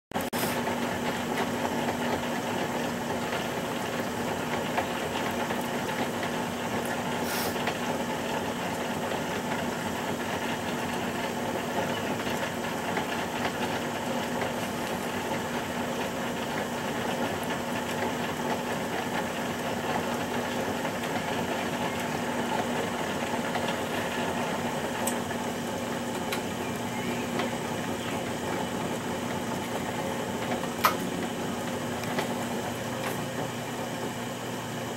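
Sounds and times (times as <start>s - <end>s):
potter's wheel motor humming: 0.2s - 34.9s.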